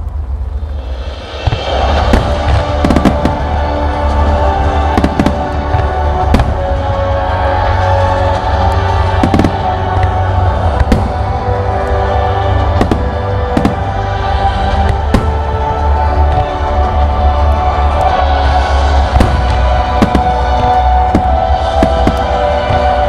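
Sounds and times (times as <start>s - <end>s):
music with sustained tones: 0.0s - 23.0s.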